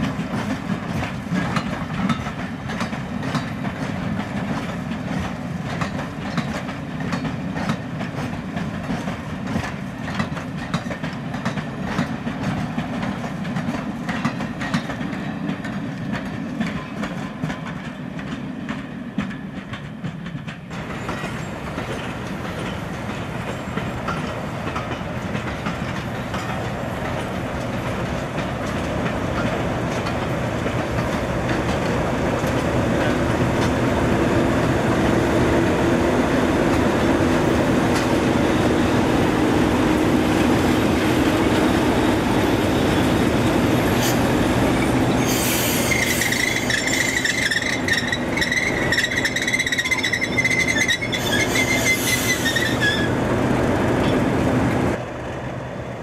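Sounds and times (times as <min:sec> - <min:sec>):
train running on rails: 0:00.0 - 0:56.0.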